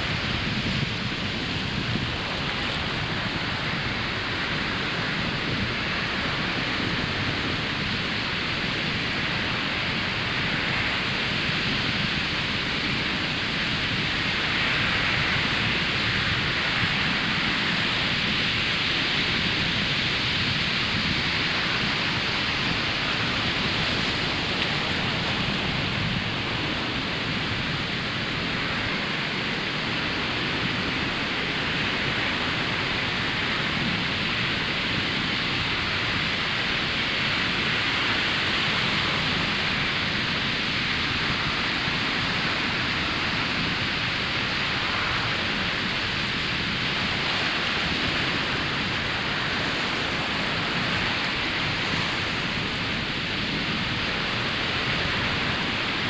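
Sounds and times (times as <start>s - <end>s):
ocean surf on sandy beach: 0.0s - 56.0s.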